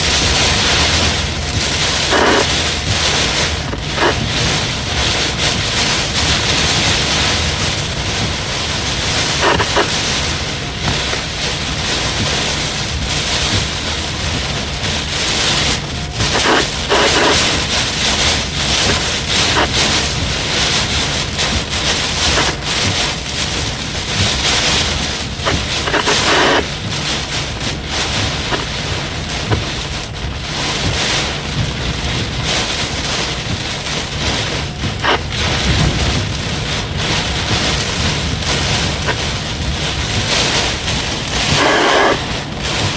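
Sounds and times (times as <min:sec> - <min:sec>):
heavy rain: 0:00.0 - 0:42.9
wind: 0:00.0 - 0:42.9.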